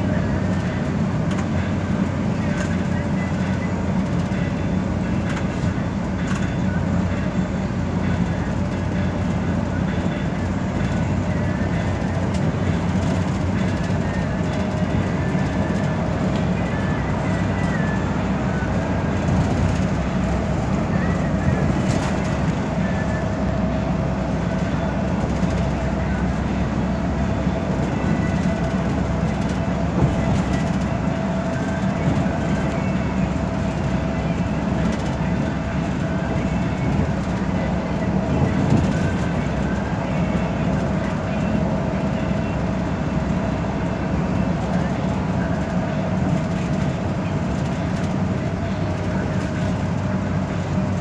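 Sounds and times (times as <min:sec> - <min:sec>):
bus engine and tyres rumbling: 0:00.0 - 0:51.0.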